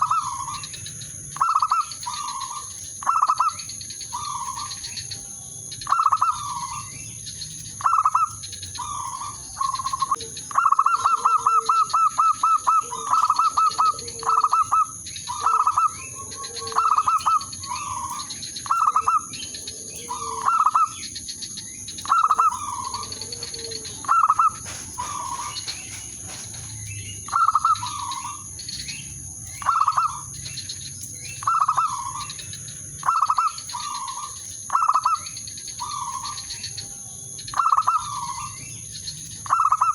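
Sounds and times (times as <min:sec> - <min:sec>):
dove cooing: 0:00.0 - 0:03.6, 0:04.2 - 0:05.0, 0:05.8 - 0:07.0, 0:07.8 - 0:21.2, 0:22.0 - 0:29.0, 0:29.6 - 0:30.4, 0:31.4 - 0:36.7, 0:37.5 - 0:38.7, 0:39.4 - 0:39.9.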